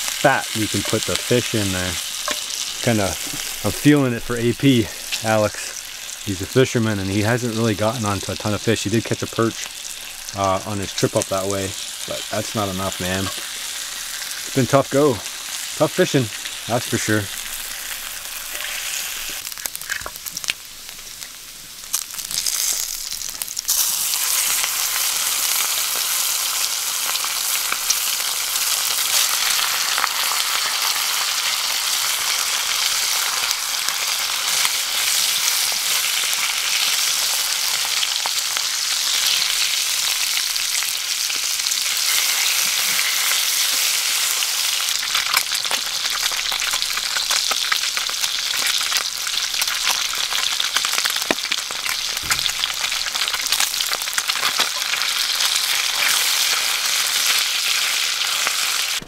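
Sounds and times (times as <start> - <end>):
bacon sizzling in a skillet: 0.0 - 59.0.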